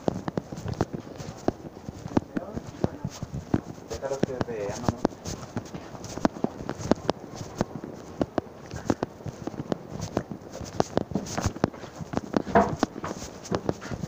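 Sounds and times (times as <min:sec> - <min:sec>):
footsteps on pavement: 0:00.0 - 0:14.0.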